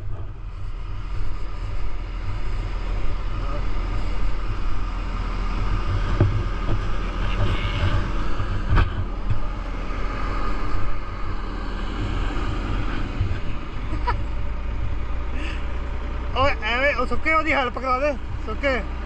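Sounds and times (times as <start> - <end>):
truck diesel engine rumbling: 0.0 - 19.0.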